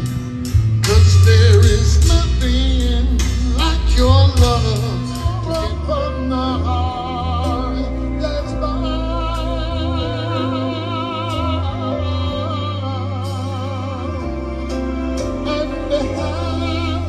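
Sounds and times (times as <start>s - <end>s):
bass line: 0.0s - 17.0s
love song with vibrato singing: 0.0s - 17.0s.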